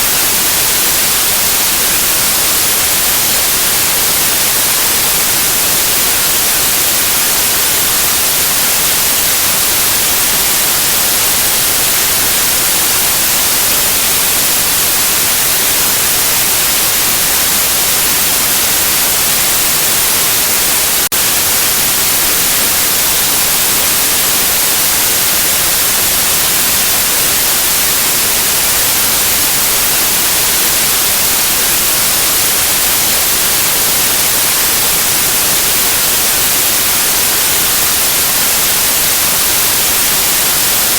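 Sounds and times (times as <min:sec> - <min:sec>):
loud white noise hiss: 0:00.0 - 0:40.9.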